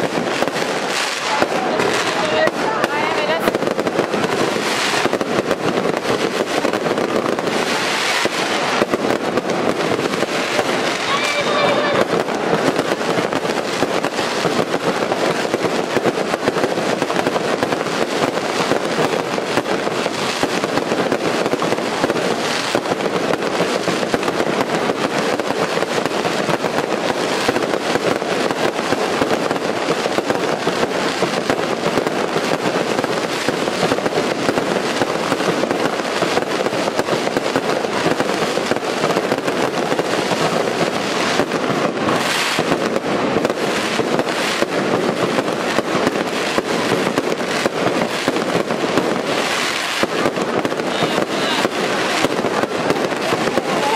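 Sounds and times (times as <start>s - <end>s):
firecrackers crackling: 0.0s - 53.9s
loud firework bangs: 0.0s - 53.9s.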